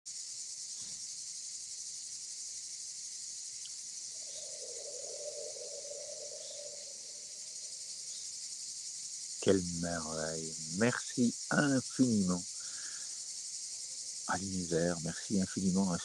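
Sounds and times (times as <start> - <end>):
insects chirring: 0.1 - 16.0.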